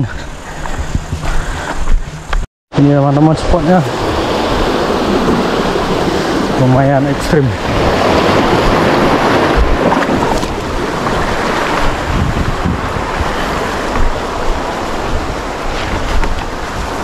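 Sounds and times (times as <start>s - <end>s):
wind buffeting microphone: 0.0s - 17.0s
sea waves washing over rocks: 2.8s - 17.0s.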